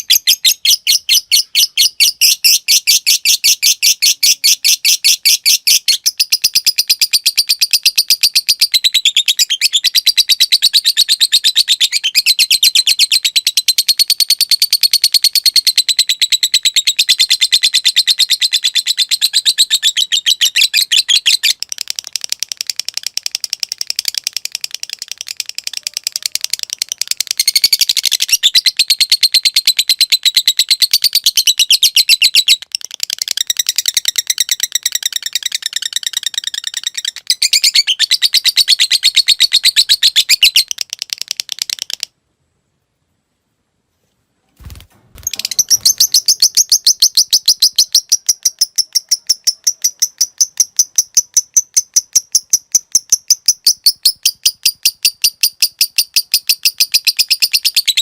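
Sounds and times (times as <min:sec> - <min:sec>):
lovebird chattering: 0:00.0 - 0:42.1, 0:45.2 - 0:58.0.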